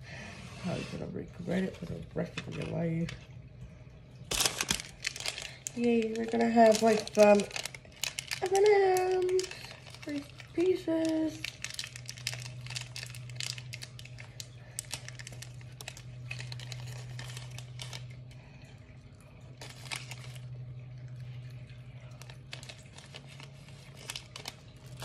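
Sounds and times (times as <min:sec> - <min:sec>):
low hum: 0:00.0 - 0:25.0
plastic packet crinkling: 0:01.5 - 0:03.3, 0:04.2 - 0:18.6, 0:19.4 - 0:25.0.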